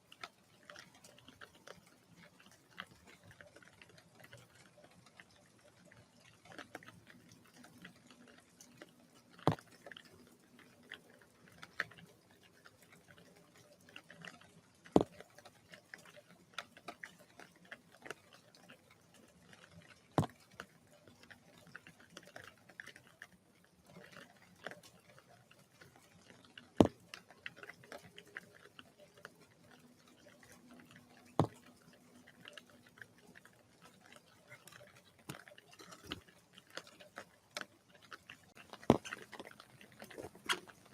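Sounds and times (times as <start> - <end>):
raindrops pattering: 0.0 - 40.9.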